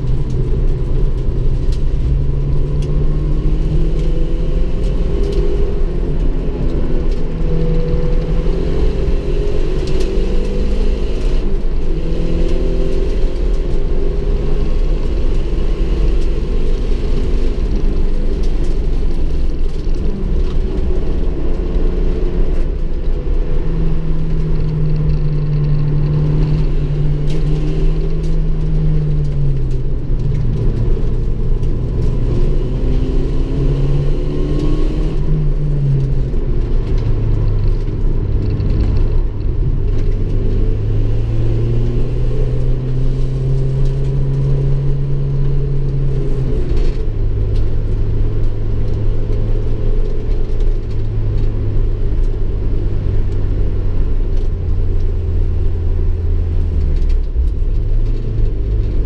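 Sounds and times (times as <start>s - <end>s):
turbocharged car engine revving: 0.0s - 52.4s
low road rumble: 0.0s - 59.0s.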